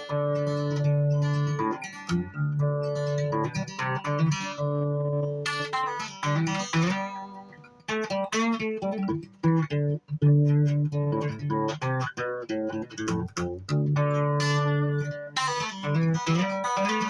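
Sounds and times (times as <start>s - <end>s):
guitar plucking notes and chords: 0.0s - 17.0s.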